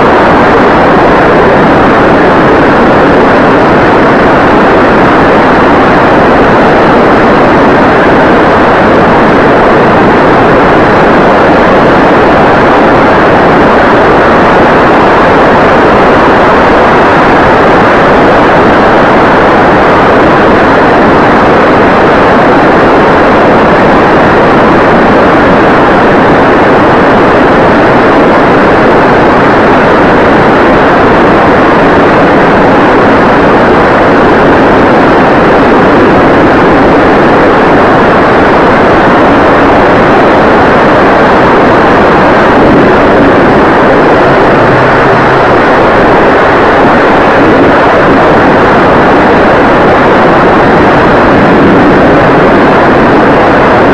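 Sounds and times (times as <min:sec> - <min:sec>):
motor and propeller noise: 0:00.0 - 0:53.9
wind rush: 0:00.0 - 0:53.9.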